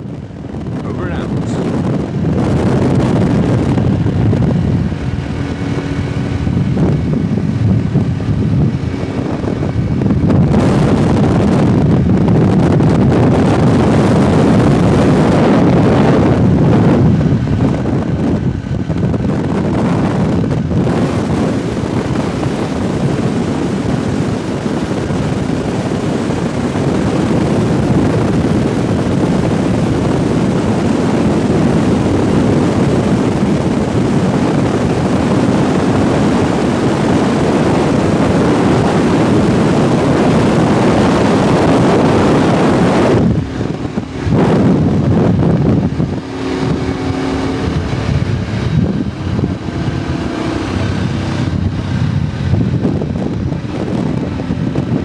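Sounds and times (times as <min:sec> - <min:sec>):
quad bike engine running: 0:00.0 - 0:55.0
wind rushing over microphone: 0:00.0 - 0:55.0.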